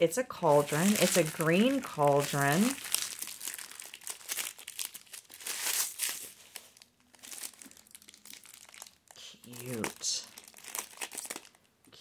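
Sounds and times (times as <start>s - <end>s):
plastic wrapping crinkling: 0.3s - 11.7s.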